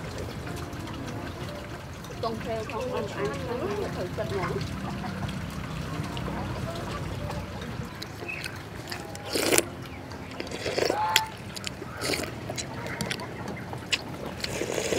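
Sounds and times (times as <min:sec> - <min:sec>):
eating sounds: 0:00.0 - 0:14.9.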